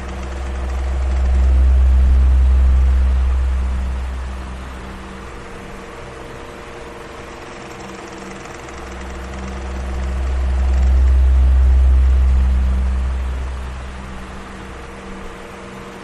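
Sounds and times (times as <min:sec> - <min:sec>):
electric fan whirring: 0:00.0 - 0:16.0.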